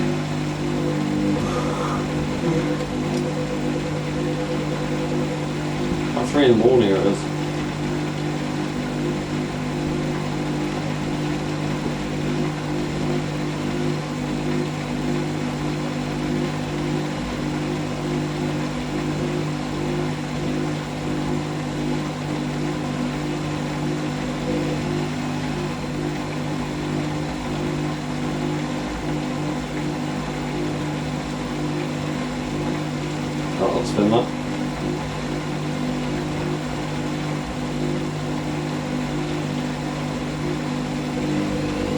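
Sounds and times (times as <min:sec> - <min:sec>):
washing machine humming: 0:00.0 - 0:41.9.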